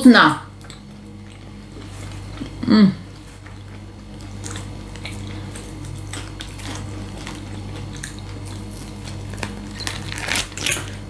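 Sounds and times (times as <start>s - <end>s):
low steady hum: 0.0s - 11.0s
person chewing food: 0.6s - 11.0s.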